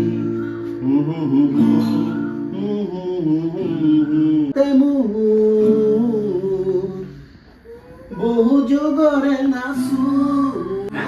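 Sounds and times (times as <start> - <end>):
person singing long sliding notes: 0.0 - 11.0.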